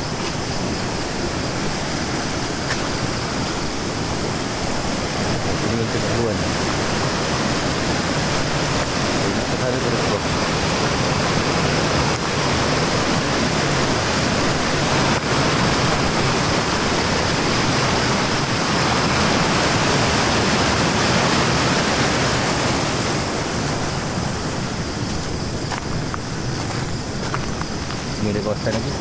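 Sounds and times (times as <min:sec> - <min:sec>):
river rushing over weir: 0:00.0 - 0:29.0.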